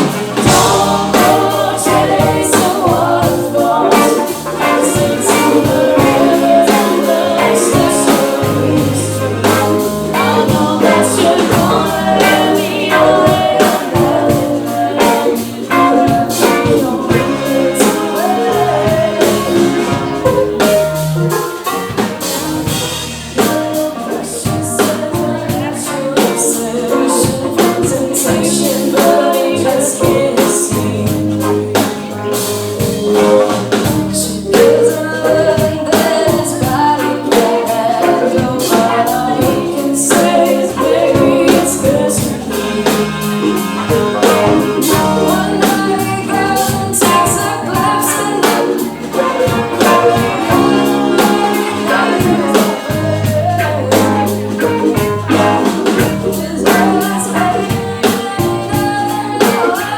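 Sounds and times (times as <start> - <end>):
live band playing pop: 0.0 - 59.9
person singing: 0.0 - 59.9.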